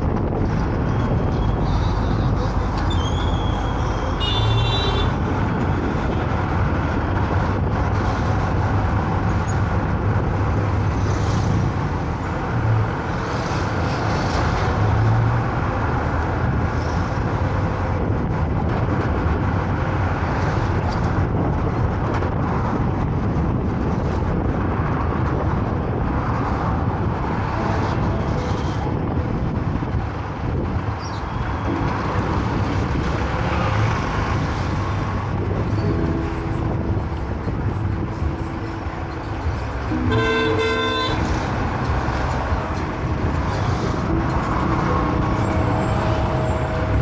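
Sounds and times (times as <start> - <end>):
tyre and road noise: 0.0 - 47.0
low engine hum: 5.1 - 47.0.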